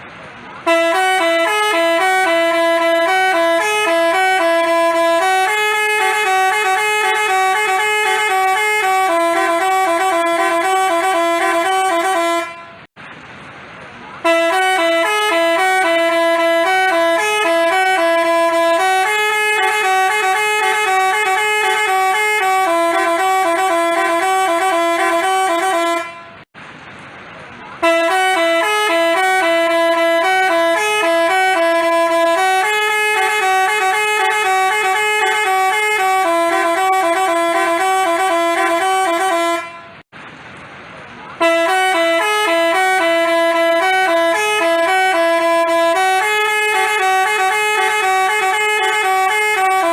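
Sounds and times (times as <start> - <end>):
multi-tone bus horn melody: 0.5 - 12.9, 14.2 - 26.5, 27.8 - 40.1, 41.4 - 49.9.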